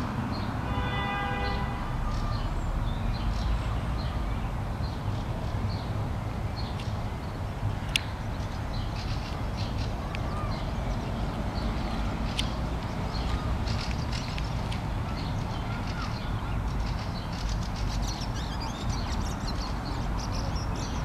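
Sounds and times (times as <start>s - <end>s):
low outdoor rumble: 1.8s - 21.0s.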